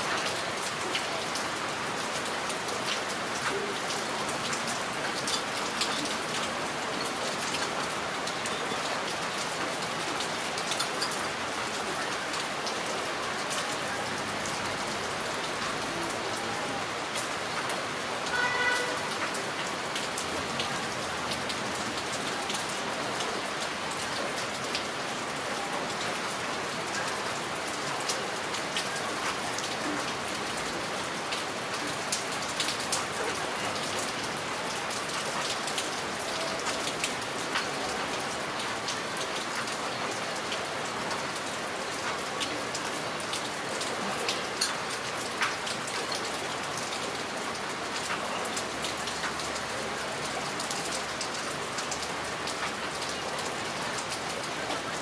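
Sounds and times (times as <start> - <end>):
raindrops ticking close by: 0.1 - 55.0.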